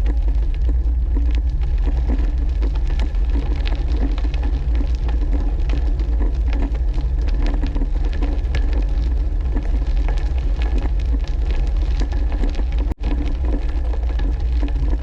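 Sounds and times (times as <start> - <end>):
bike tyres crackling on path: 0.0 - 15.0.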